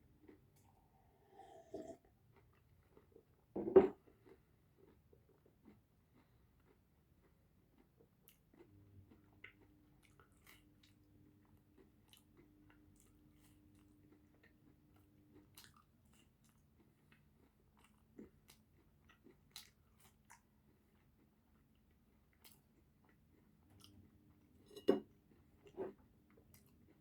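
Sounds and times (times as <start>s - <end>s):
person chewing pizza: 4.0s - 27.0s.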